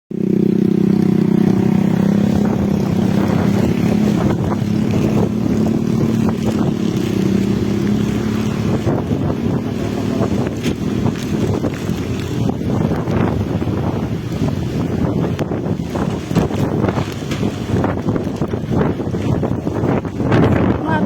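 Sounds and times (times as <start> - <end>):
rain: 0.2 - 20.6
strong gusting wind: 0.2 - 21.0.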